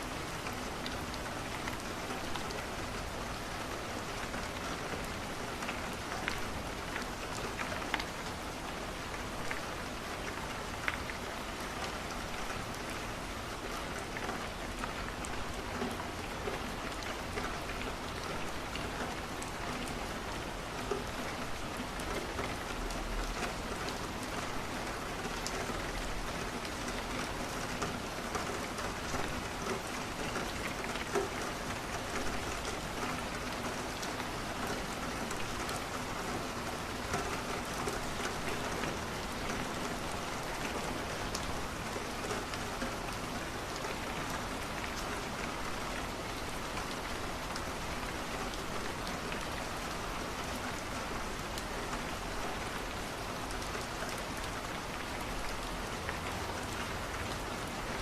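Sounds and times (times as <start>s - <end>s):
rain falling on a window: 0.0s - 58.0s.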